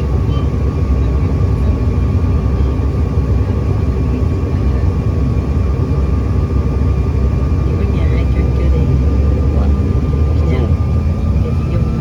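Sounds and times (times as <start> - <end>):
jet engine and airflow drone: 0.0 - 12.0.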